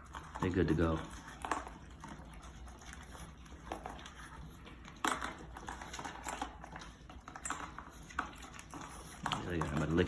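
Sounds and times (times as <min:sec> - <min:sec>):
dogs eating from bowls: 0:00.0 - 0:10.0.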